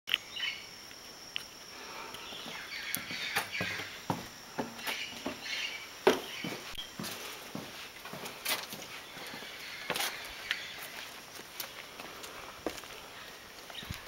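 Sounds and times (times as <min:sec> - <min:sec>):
high-pitched insect hum: 0:00.1 - 0:14.0
footsteps on stone path: 0:02.2 - 0:14.0.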